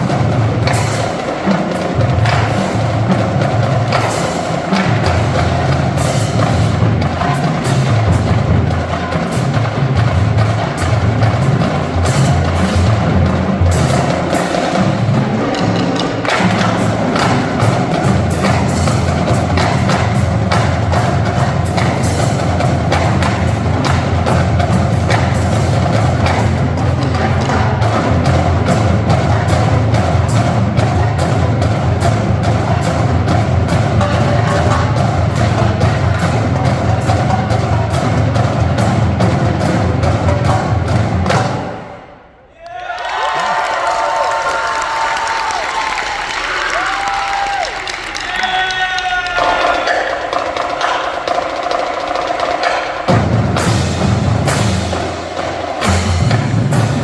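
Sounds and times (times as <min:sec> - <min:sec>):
snare drums rapid strikes: 0:00.0 - 0:42.2, 0:43.1 - 0:57.0.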